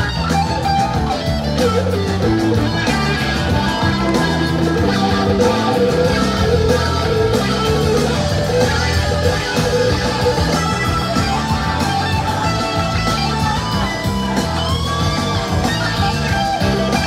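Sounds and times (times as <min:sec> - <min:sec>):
electric guitars: 0:00.0 - 0:17.0
live rock band playing: 0:00.0 - 0:17.0.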